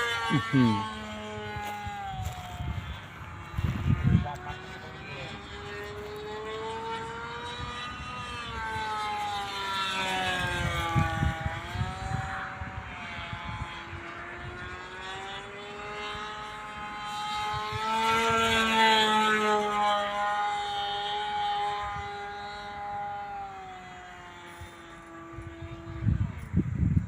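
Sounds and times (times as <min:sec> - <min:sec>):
model airplane engine whine: 0:00.0 - 0:27.0
wind rumble on microphone: 0:00.0 - 0:27.0.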